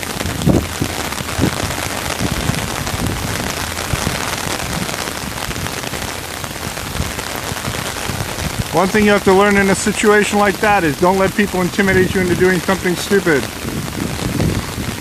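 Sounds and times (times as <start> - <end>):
heavy rain on umbrella: 0.0 - 15.0.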